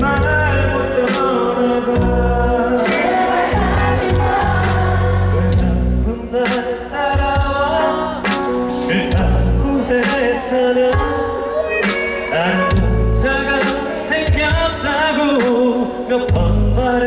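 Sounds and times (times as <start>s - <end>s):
live pop band with vocals: 0.0s - 17.0s.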